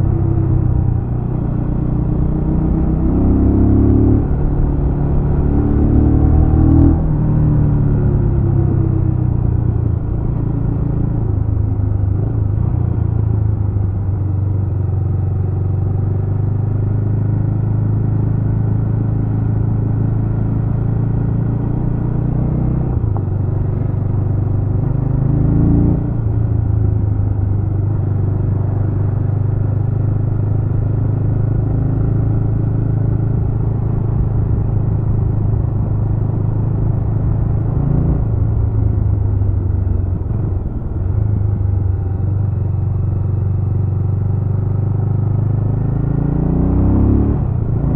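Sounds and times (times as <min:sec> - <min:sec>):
motorcycle engine running: 0:07.0 - 0:46.3.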